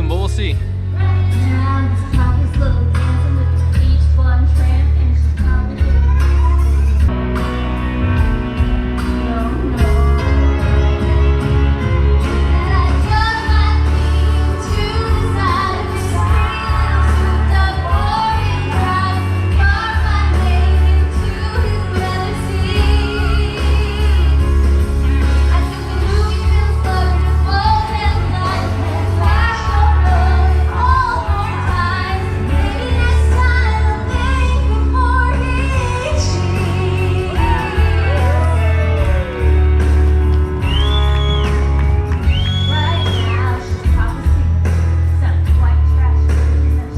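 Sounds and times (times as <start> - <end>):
backing track with heavy bass: 0.0 - 46.9
woman singing karaoke: 0.9 - 7.2, 9.0 - 39.2, 42.4 - 46.9.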